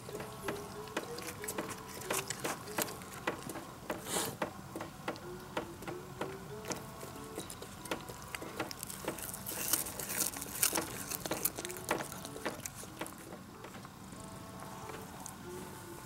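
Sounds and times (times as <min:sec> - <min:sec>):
cat chewing grass: 0:00.0 - 0:16.0.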